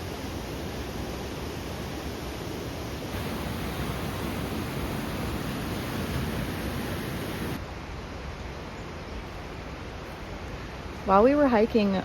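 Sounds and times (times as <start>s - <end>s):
steady rushing noise: 0.0s - 11.7s.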